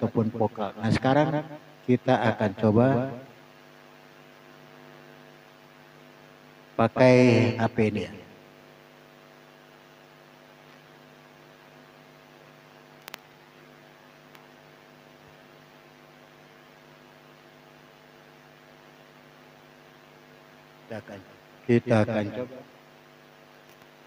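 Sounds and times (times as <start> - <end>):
low electrical mains hum: 0.0 - 24.0.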